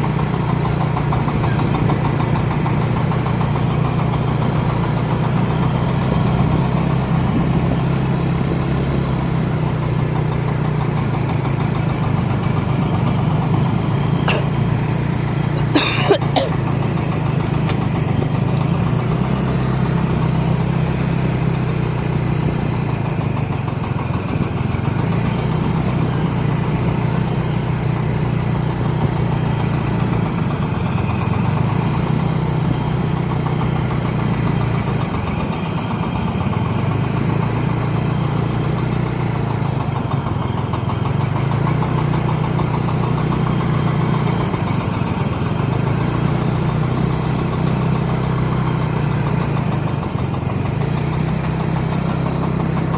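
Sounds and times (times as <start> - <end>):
machine engine humming: 0.0 - 52.9.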